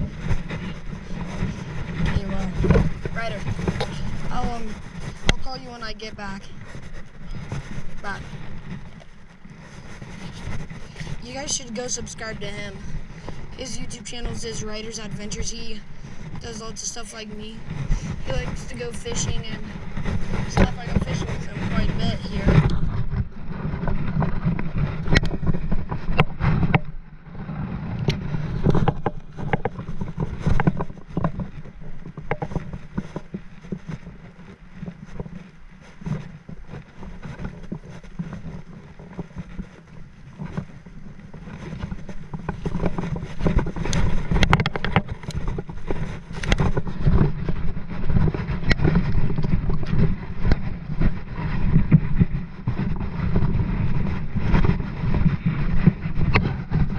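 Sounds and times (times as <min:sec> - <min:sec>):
knocks and crunches on gravel: 0:00.0 - 0:56.9
wind buffeting microphone: 0:00.0 - 0:56.9.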